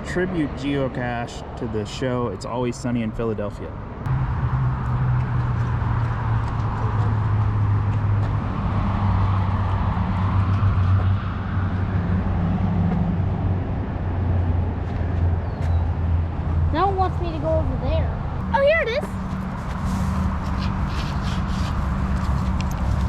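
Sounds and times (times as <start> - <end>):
low rumble of motor vehicles: 0.0 - 23.0.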